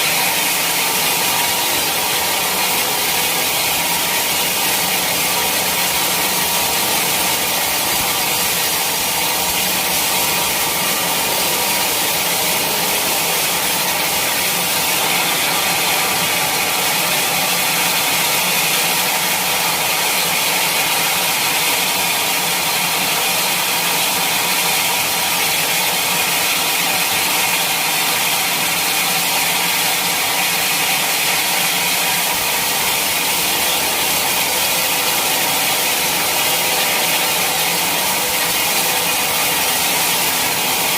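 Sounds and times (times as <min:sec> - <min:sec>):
mill motor running: 0:00.0 - 0:40.9
saw blade cutting log: 0:00.0 - 0:40.9.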